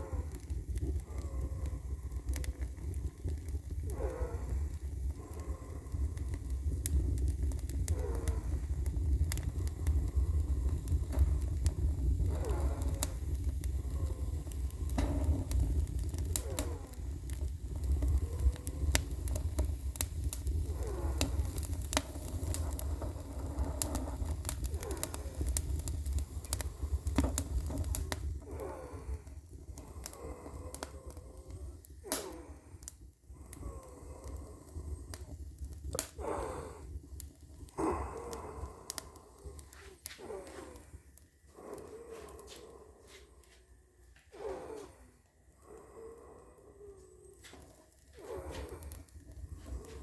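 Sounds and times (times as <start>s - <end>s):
fire crackling: 0.0s - 50.0s
fire low rumble: 0.0s - 50.0s.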